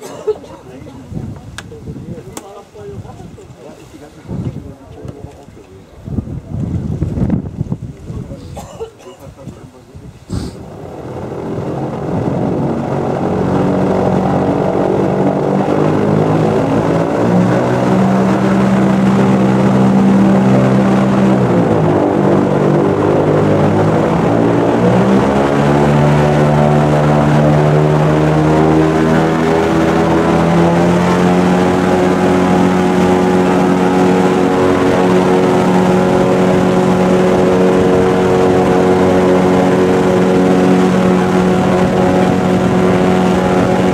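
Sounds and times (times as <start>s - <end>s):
airboat engine and propeller roaring: 0.0s - 43.9s.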